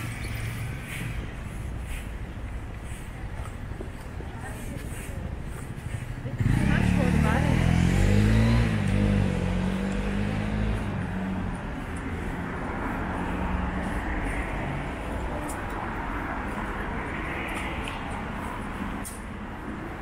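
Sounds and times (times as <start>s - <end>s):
traffic rush: 0.0s - 20.0s
vehicle engine hum: 0.0s - 20.0s.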